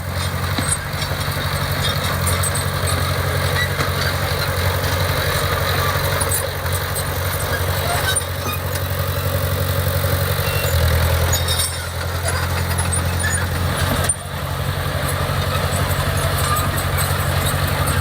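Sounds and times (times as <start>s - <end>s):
diesel engine pulsing hum: 0.0s - 18.0s.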